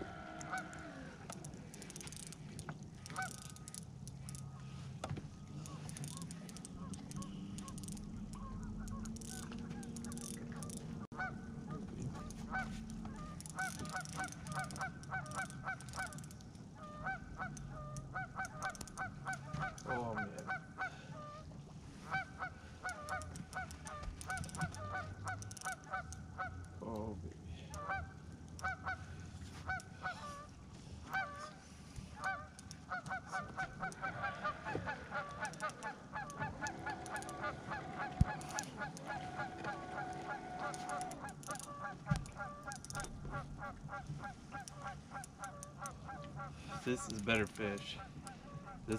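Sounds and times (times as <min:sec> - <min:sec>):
geese honking: 0:00.0 - 0:02.3, 0:03.0 - 0:04.9, 0:05.6 - 0:26.7, 0:27.7 - 0:48.9.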